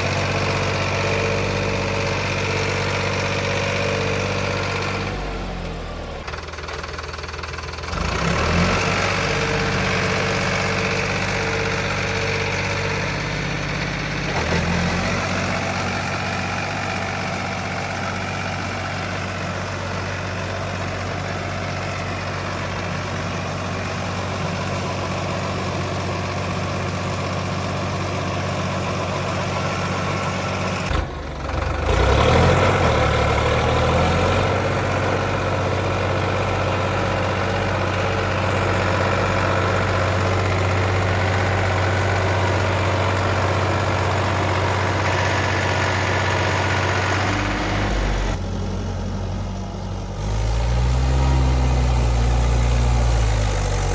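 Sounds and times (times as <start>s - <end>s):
tractor diesel engines running: 0.0s - 53.9s.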